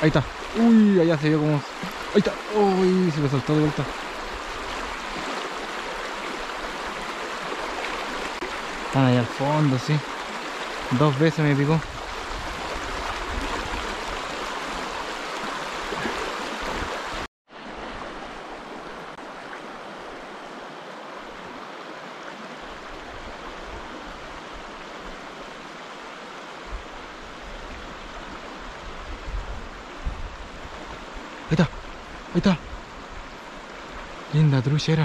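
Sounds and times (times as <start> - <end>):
river water rushing over rocks: 0.0 - 35.0.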